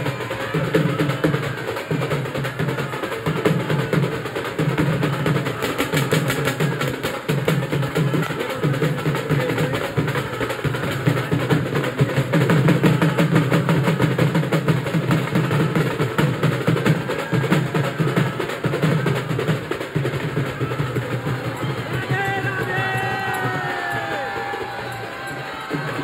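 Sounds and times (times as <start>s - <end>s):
music with fast dense drumming: 0.0s - 26.0s.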